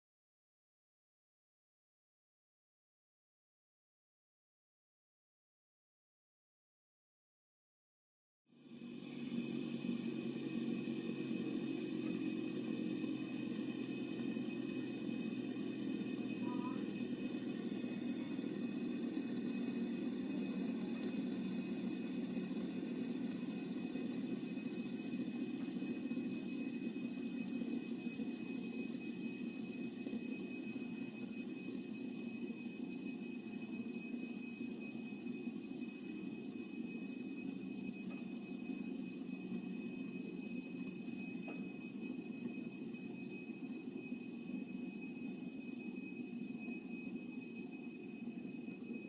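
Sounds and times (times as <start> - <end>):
fidget spinner whirring: 8.5 - 49.0.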